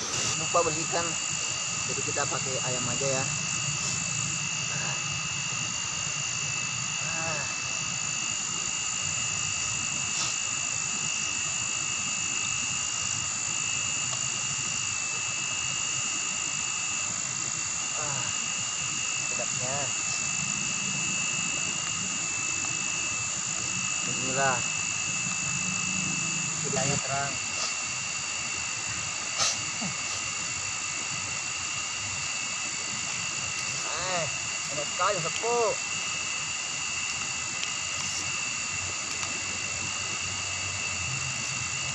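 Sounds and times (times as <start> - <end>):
insects calling in chorus: 0.0 - 41.9.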